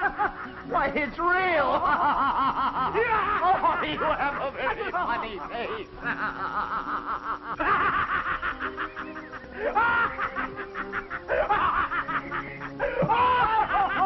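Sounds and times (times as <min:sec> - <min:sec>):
man laughing: 0:00.0 - 0:01.0, 0:01.6 - 0:14.0
background music: 0:00.0 - 0:14.0.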